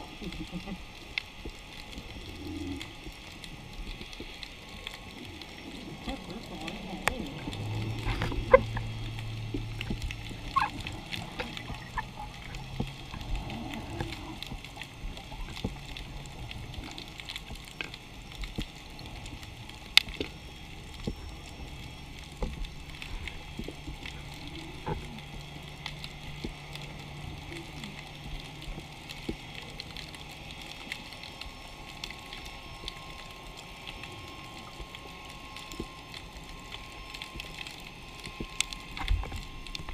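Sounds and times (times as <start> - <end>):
low steady hum: 0.0 - 39.9
underwater hiss with clicks: 0.0 - 39.9.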